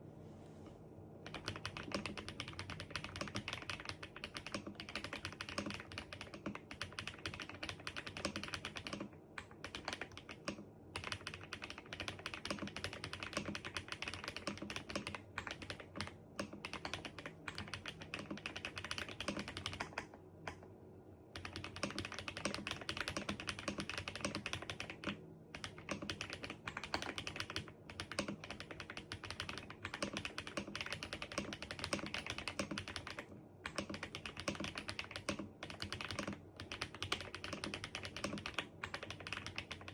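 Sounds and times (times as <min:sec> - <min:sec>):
mechanical keyboard typing: 0:01.2 - 0:20.6, 0:21.4 - 0:39.9.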